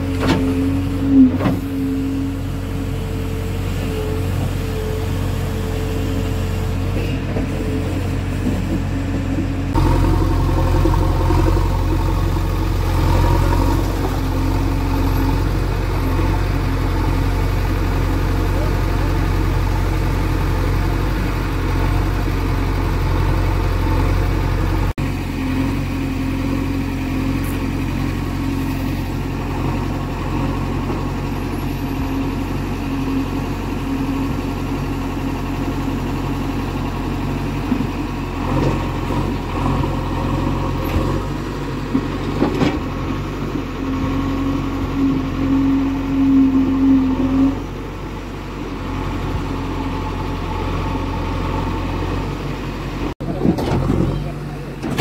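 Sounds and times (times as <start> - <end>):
diesel engine running: 0.0 - 55.0
higher mechanical hum: 0.0 - 55.0.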